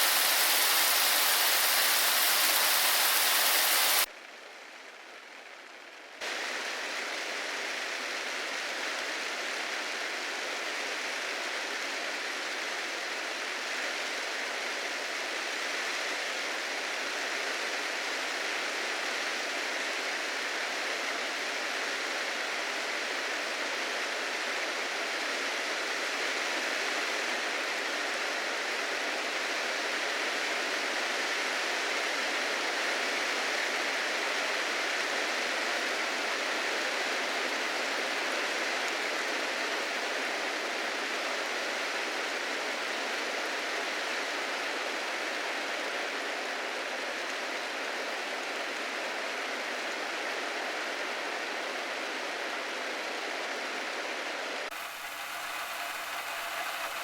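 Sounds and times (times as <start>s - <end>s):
heavy rain hiss: 0.0s - 4.1s, 5.0s - 57.0s
soft steady rain: 0.0s - 57.0s.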